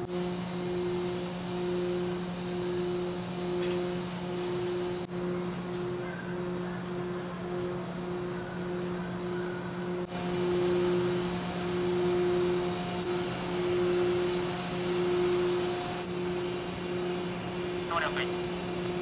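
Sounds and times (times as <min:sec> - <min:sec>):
ferry machinery droning: 0:00.0 - 0:19.0.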